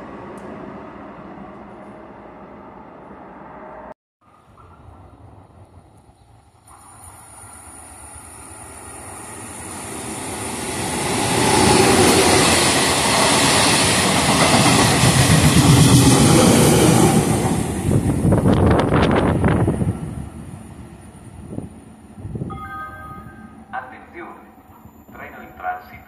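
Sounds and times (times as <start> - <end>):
train rumble and wheel noise: 0.0 - 3.9, 4.6 - 26.0.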